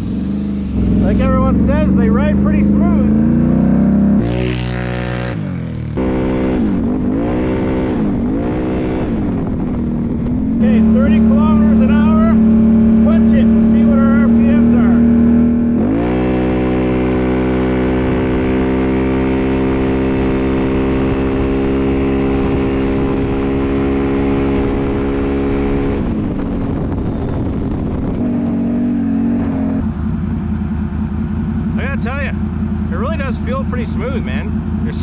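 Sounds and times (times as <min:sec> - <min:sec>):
atv engine revving: 0:00.0 - 0:35.0.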